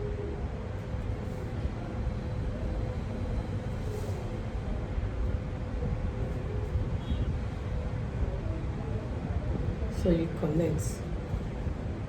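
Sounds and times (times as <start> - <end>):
faint constant hum: 0.0 - 12.0.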